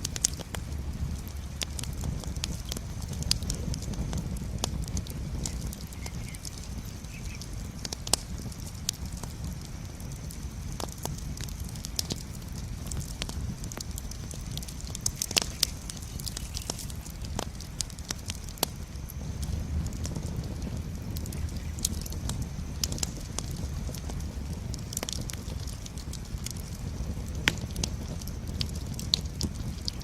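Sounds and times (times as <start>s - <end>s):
rumble of flames: 0.0s - 30.0s
wood crackling and popping: 0.0s - 30.0s.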